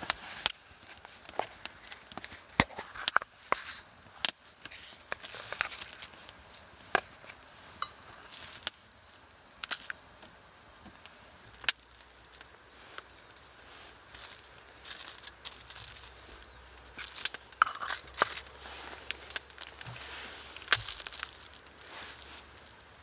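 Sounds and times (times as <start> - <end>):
soft rustling: 0.0 - 23.0.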